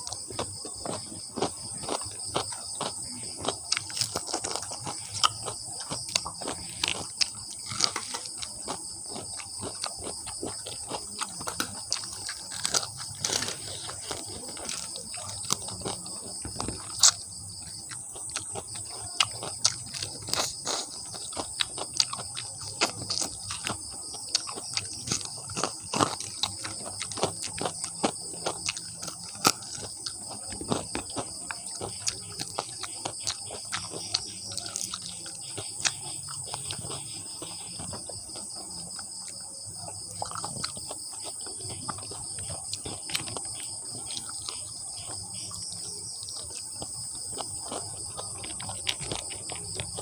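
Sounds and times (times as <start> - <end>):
crunchy chewing: 0.0 - 50.0.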